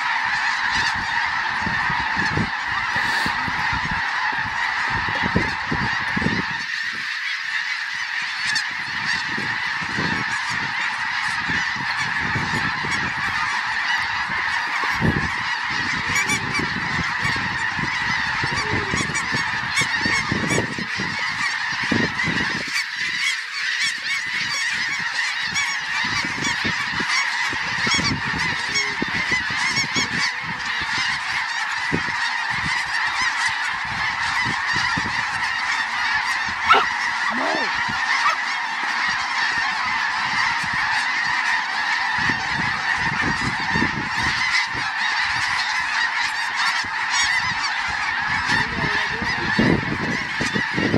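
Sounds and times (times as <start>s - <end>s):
geese honking: 0.0s - 50.9s
wind rumbling on microphone: 0.2s - 7.0s, 8.7s - 23.2s, 24.2s - 41.0s, 42.0s - 45.7s, 46.8s - 50.9s.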